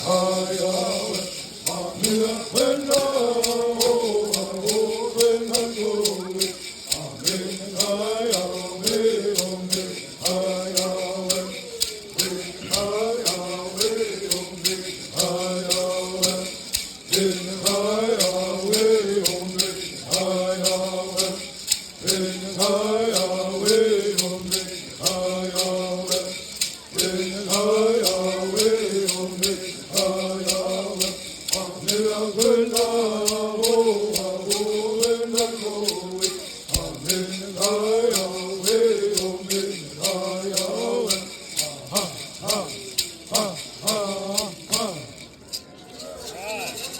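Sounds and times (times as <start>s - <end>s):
regular ticking beat: 0.0s - 45.4s.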